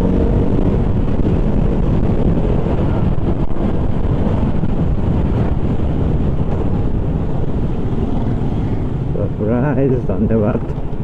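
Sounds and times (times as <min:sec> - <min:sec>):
motorcycle engine: 0:00.0 - 0:09.3
road noise: 0:00.0 - 0:11.0
wind buffeting microphone: 0:00.0 - 0:11.0.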